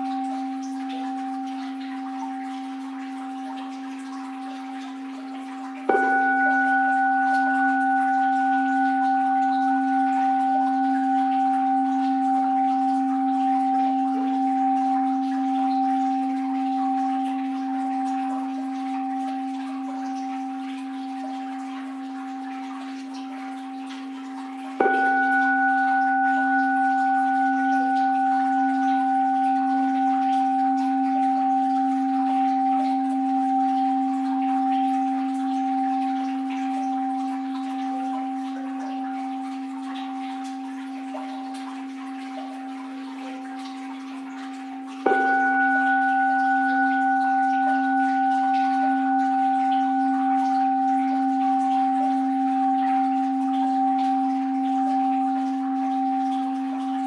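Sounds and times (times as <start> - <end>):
bowl bell ringing: 0.0 - 57.0
faint flowing water: 0.0 - 57.0.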